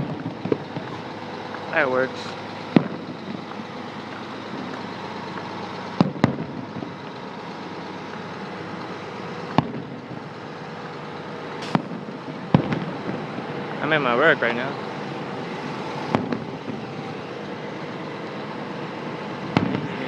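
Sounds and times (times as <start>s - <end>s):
distant fireworks bangs: 0.0s - 1.7s, 2.6s - 18.3s, 19.3s - 20.0s
truck noise: 0.0s - 20.0s.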